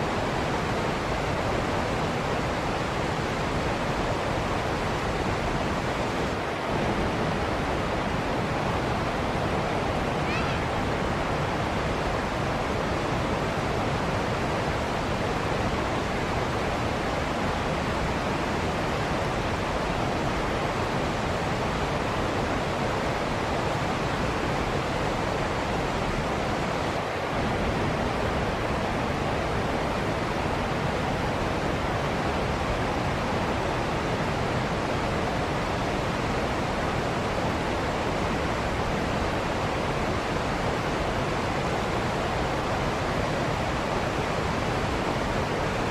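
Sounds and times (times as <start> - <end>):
waterfall: 0.0 - 45.9.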